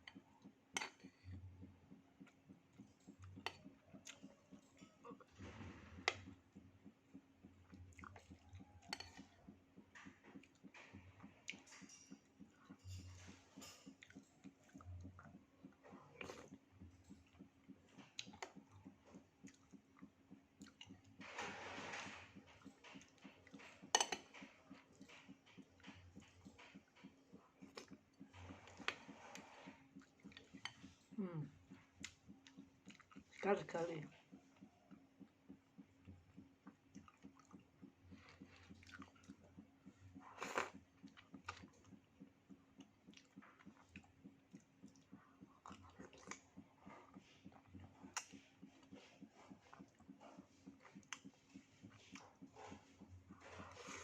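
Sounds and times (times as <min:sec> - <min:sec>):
person chewing with wet smacks: 0:00.0 - 0:21.2, 0:22.4 - 0:54.0.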